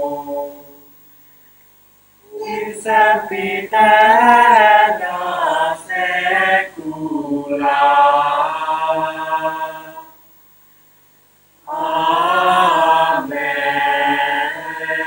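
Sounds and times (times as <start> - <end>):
unaccompanied singing voices: 0.0 - 0.9, 2.2 - 10.3, 11.6 - 15.0.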